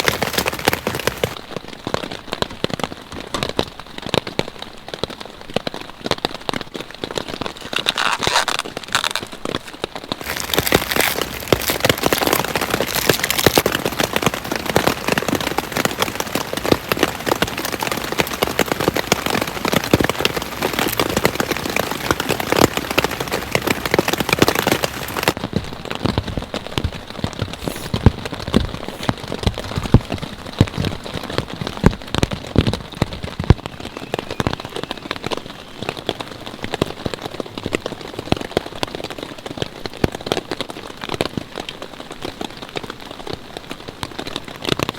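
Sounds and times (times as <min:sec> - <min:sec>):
rain pattering: 0:00.0 - 0:44.9.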